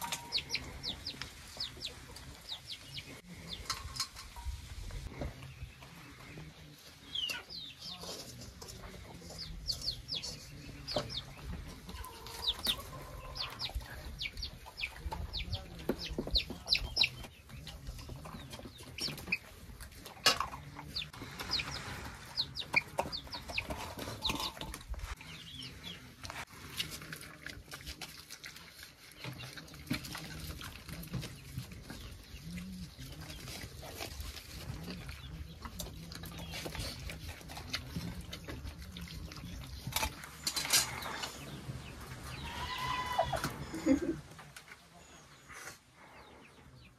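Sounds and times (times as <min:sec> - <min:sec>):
chickens clucking and peeping: 0:00.0 - 0:46.9.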